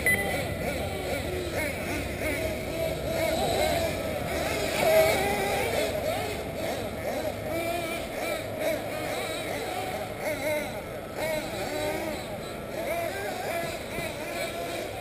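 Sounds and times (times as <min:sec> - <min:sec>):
rc car engines whining: 0:00.0 - 0:15.0.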